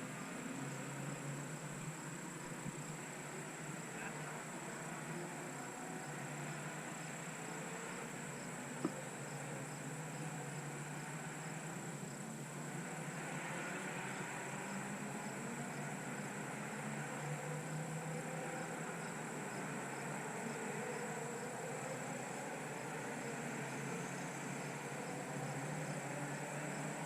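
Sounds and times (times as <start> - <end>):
distant race cars droning: 0.0 - 27.0
high insect-like whine: 0.0 - 27.0.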